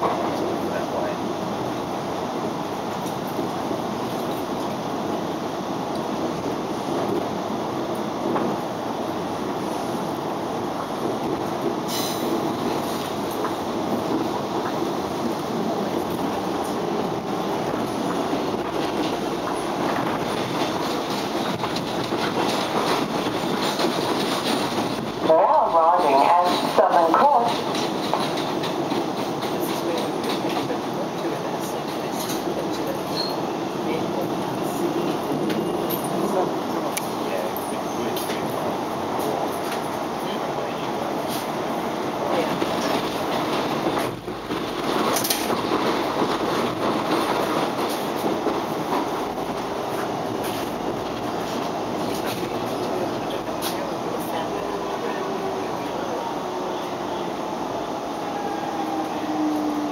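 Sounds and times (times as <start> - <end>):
train wheels clattering on rails: 0.0 - 1.1, 5.8 - 57.3.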